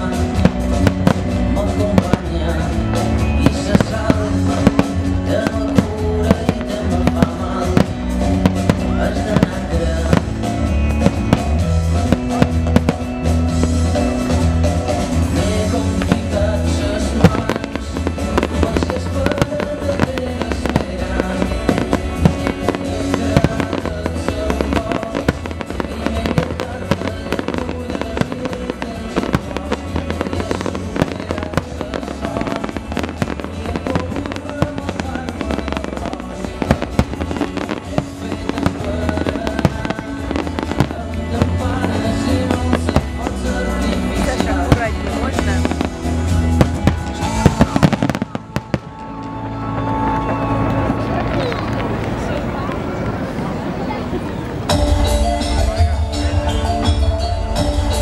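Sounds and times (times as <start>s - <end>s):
loud music with heavy bass: 0.0s - 49.7s, 54.7s - 58.0s
fireworks bursting and crackling: 0.0s - 58.0s.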